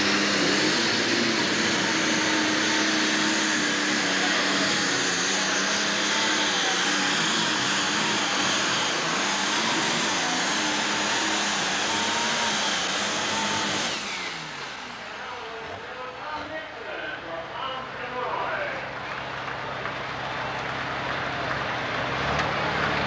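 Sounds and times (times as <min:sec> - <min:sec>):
diesel tractor engine under load: 0:00.0 - 0:23.0
high turbo whine: 0:00.0 - 0:23.0.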